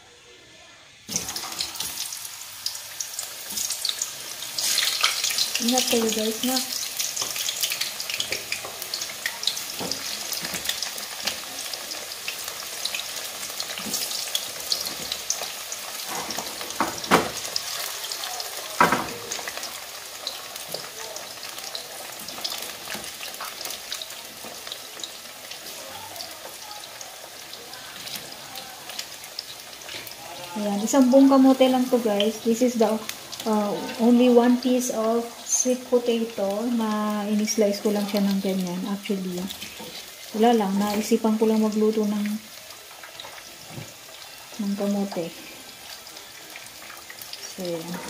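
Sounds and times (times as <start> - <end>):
potato slices deep-frying in oil: 0.6 - 48.0.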